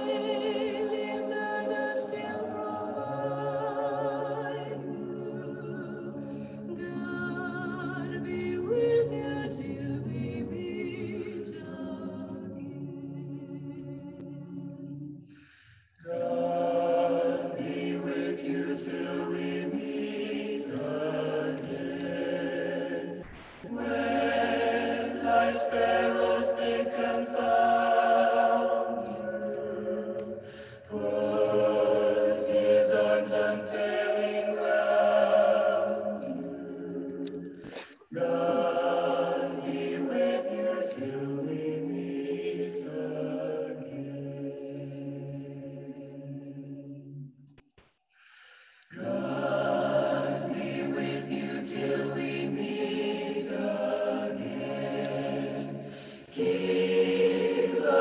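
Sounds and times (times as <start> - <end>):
choir singing a cappella: 0.0 - 47.6, 48.2 - 58.0.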